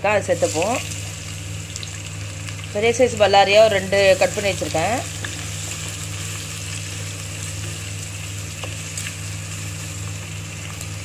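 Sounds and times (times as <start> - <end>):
onions sizzling in hot oil: 0.0 - 11.0
steady low hum: 0.0 - 11.0.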